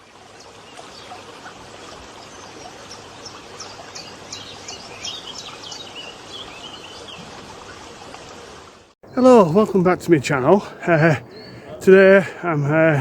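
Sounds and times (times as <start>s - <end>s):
birds chirping and trilling: 0.4s - 8.5s, 9.1s - 13.0s.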